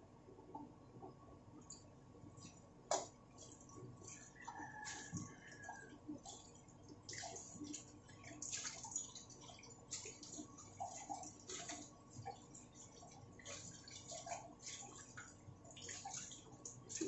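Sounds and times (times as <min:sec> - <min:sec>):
broth bubbling and popping: 0:00.2 - 0:17.0.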